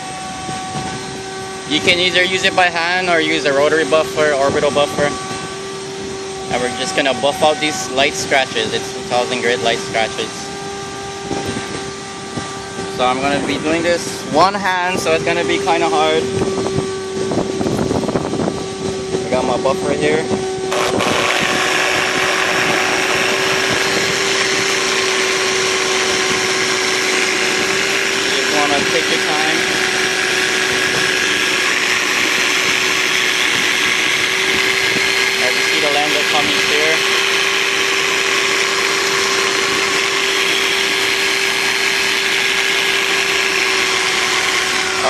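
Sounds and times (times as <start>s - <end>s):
electric buffer humming: 0.0s - 45.0s.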